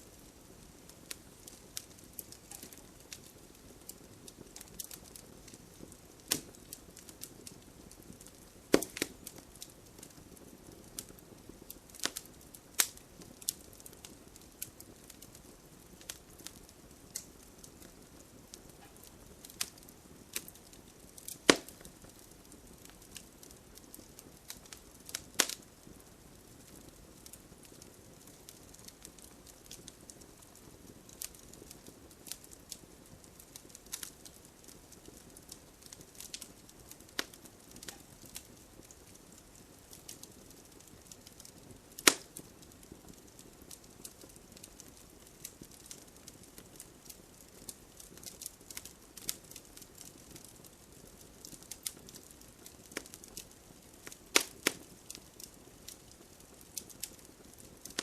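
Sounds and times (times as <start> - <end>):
campfire crackling: 0.0 - 58.0
fire pops and snaps: 0.1 - 58.0.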